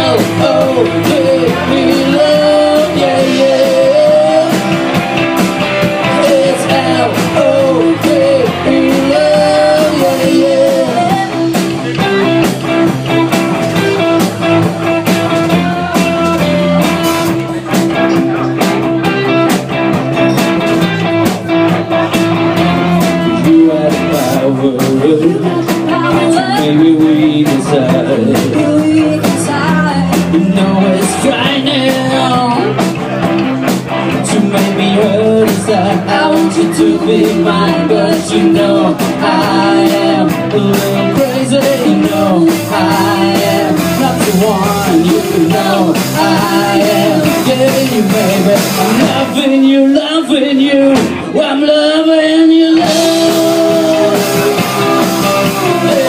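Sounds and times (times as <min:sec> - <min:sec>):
drums with busy cymbals: 0:00.0 - 0:51.6, 0:52.3 - 0:56.0
bass guitar: 0:00.0 - 0:56.0
electric guitars: 0:00.0 - 0:56.0
melodic lead guitar line bending: 0:00.0 - 0:56.0.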